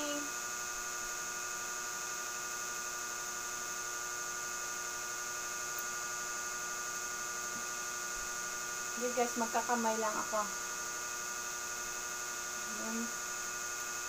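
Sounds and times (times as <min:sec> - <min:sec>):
electrical hum and whine: 0:00.0 - 0:14.0.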